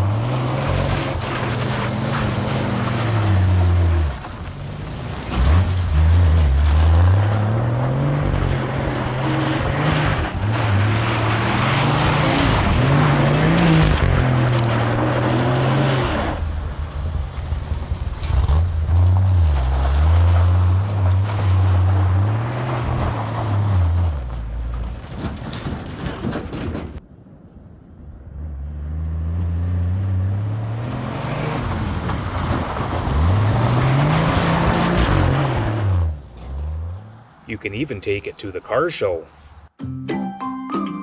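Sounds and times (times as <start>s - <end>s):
tyres churning loose dirt: 0.0s - 16.6s, 17.6s - 27.0s, 31.1s - 39.2s
truck engine revving: 0.0s - 16.7s, 17.9s - 26.3s, 28.3s - 38.9s.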